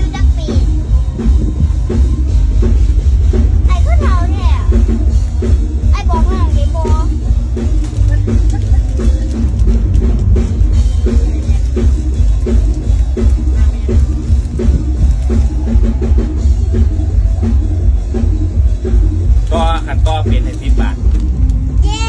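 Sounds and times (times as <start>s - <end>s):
drum kit beat: 0.0s - 22.0s
loud music with heavy bass: 0.0s - 22.0s.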